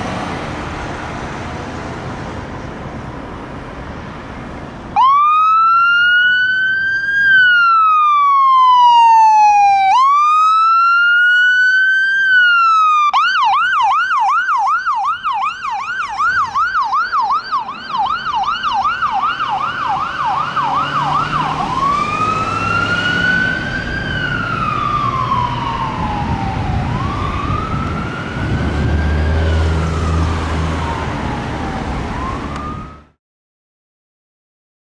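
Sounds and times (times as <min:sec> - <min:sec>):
vehicle engine and tyre rumble: 0:00.0 - 0:33.2
ambulance siren wailing and yelping: 0:05.0 - 0:33.2.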